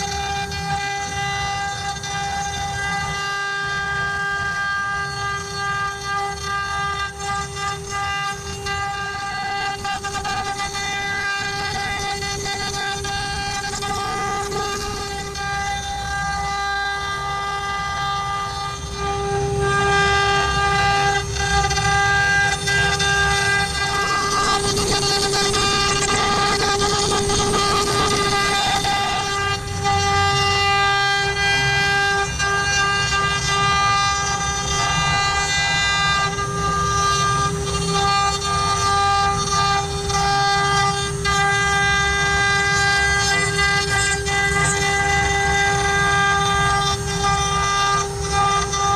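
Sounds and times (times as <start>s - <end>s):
low machine rumble: 0.0s - 48.9s
router spindle whining: 0.0s - 48.9s.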